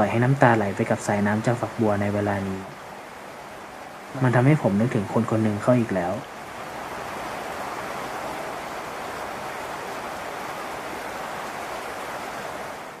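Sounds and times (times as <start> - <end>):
rush of falling water: 0.0 - 13.0.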